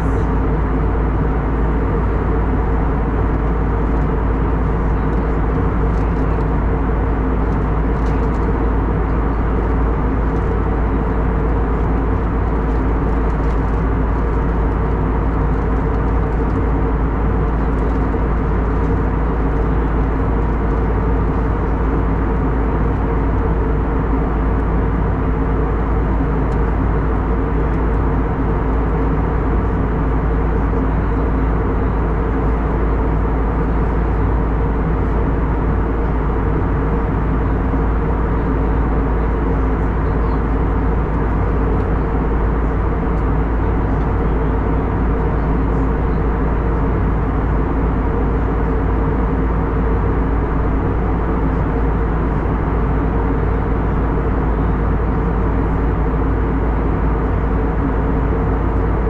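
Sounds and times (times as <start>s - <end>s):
deep rumble: 0.0s - 59.0s
low hum tones: 0.0s - 59.0s.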